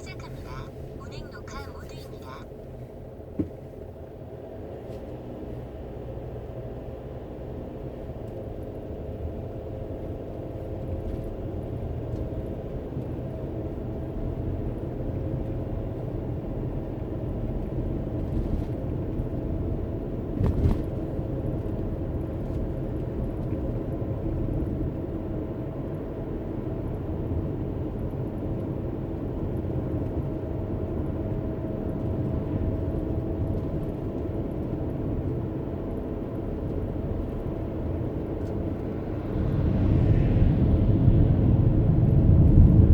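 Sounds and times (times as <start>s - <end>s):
car engine and tyre rumble: 0.0s - 42.9s.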